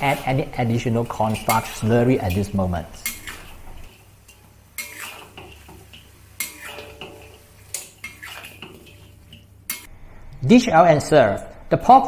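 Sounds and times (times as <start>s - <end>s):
metal spatula scraping a wok: 0.0s - 9.9s.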